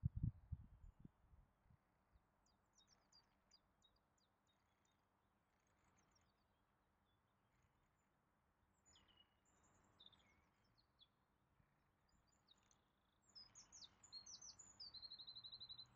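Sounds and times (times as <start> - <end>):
faint birdsong: 0.0 - 15.9.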